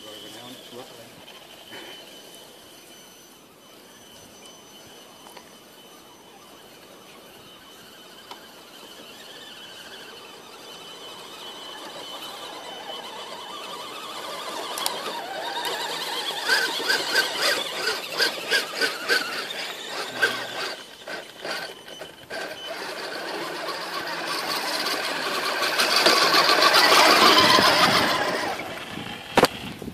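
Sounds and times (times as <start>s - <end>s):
rc car motors whining: 0.0s - 29.9s.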